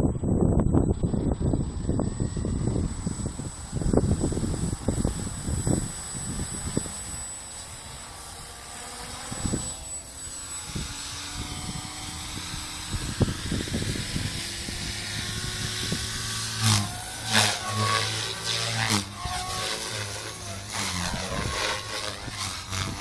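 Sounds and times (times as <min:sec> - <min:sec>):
rc helicopter motor whine: 0:00.0 - 0:23.0.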